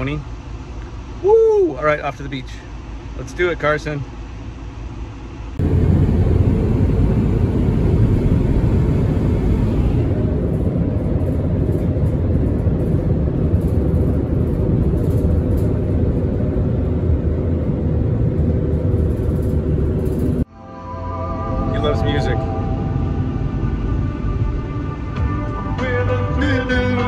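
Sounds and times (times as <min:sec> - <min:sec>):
car road and engine rumble: 0:00.0 - 0:20.5, 0:21.1 - 0:27.0.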